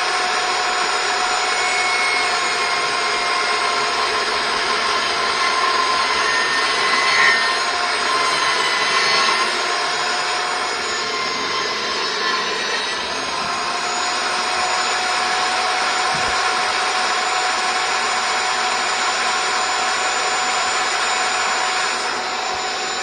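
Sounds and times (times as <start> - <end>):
table saw cutting wood: 0.0 - 23.0.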